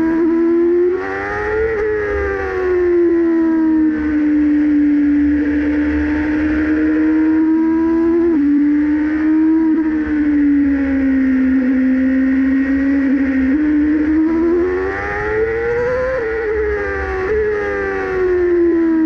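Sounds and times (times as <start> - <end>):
racing car engine: 0.0 - 19.0.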